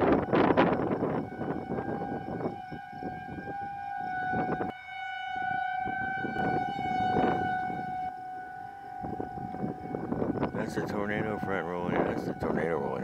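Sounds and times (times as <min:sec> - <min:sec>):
gusty low noise: 0:00.0 - 0:13.0
warning siren steady tone: 0:00.0 - 0:13.0.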